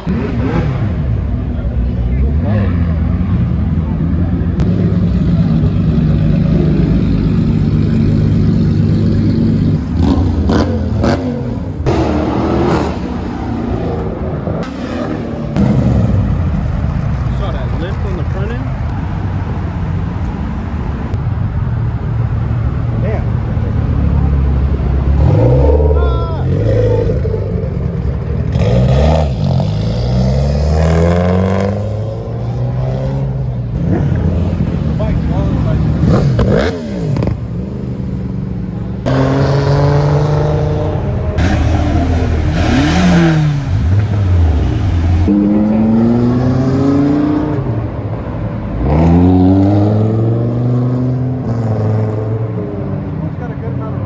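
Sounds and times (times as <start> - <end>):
car engine revving: 0.0 - 18.8, 22.7 - 52.9.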